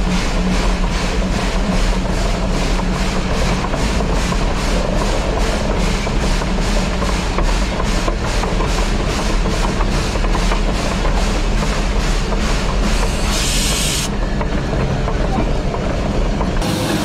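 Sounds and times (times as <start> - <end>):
rumble of train wheels: 0.0 - 17.0
steam locomotive chuffing: 0.0 - 17.0.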